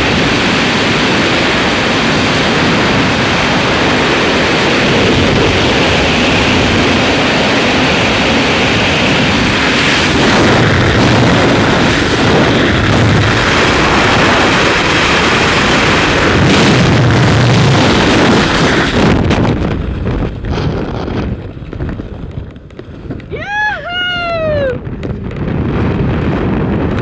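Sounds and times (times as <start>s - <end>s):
deep rumble: 0.0s - 27.0s
wind buffeting microphone: 0.0s - 27.0s.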